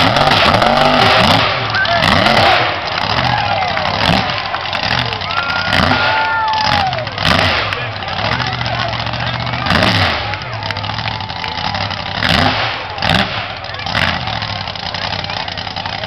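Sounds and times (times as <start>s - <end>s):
tires spinning in loose dirt: 0.0s - 16.0s
truck engine revving: 0.0s - 16.0s.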